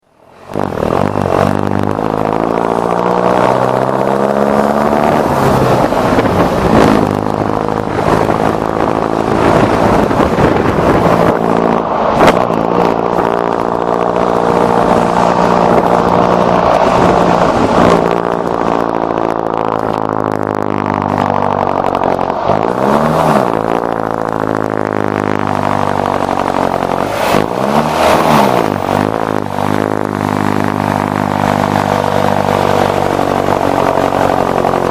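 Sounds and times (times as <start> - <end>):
bus diesel engine under load: 0.0 - 34.9.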